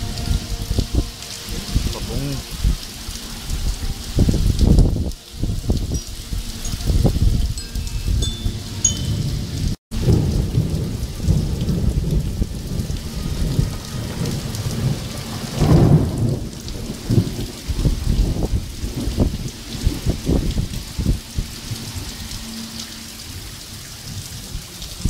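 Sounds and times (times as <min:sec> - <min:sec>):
hail and heavy rain pelting: 0:00.0 - 0:25.0.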